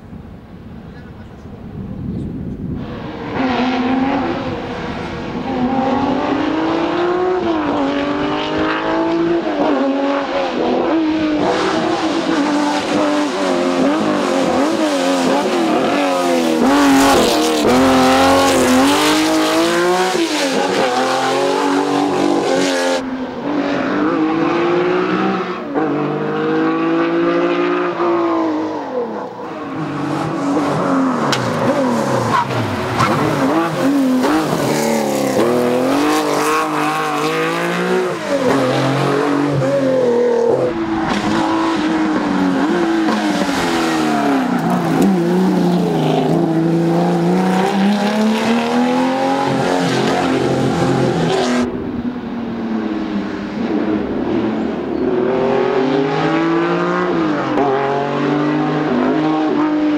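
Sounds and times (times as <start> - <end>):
rally car engines racing: 0.6 - 59.9.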